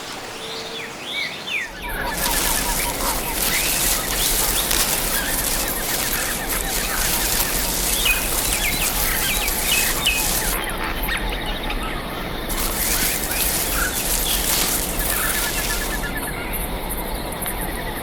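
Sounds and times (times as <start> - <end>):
small birds chirping and trilling: 0.0 - 17.8
steady jungle ambience hiss: 0.0 - 18.0.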